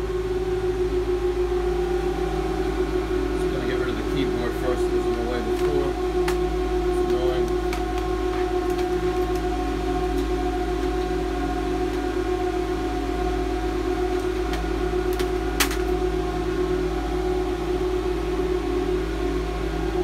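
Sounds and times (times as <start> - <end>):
cooling fans whirring: 0.0 - 20.0.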